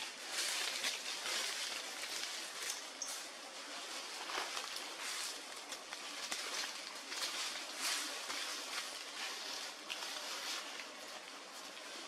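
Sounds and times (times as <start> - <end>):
soft rustles: 0.0 - 12.0
steady forest hiss: 0.0 - 12.0.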